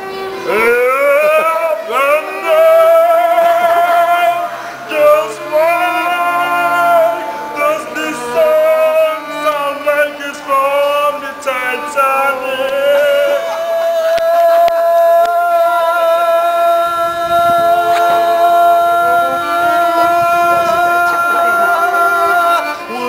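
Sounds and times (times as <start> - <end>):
man singing long held notes: 0.0 - 23.0
violin: 0.0 - 23.0.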